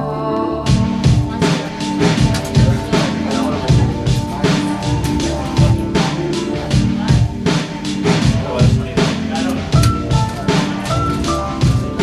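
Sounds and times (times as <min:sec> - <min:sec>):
held keyboard chord: 0:00.0 - 0:12.0
drum beat with cymbals: 0:00.7 - 0:12.0.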